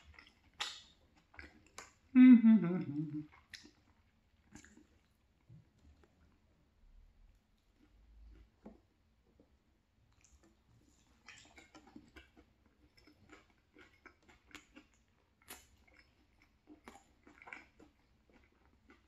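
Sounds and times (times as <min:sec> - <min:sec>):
person chewing food: 0:00.0 - 0:02.1, 0:02.8 - 0:06.4, 0:07.6 - 0:09.5, 0:10.1 - 0:19.0.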